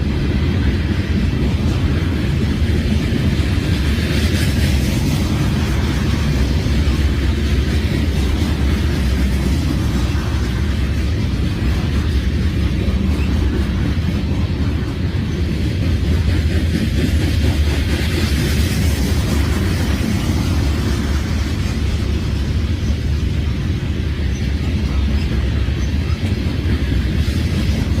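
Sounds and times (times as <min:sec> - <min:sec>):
freight train rumbling: 0:00.0 - 0:28.0
train hiss: 0:00.0 - 0:28.0.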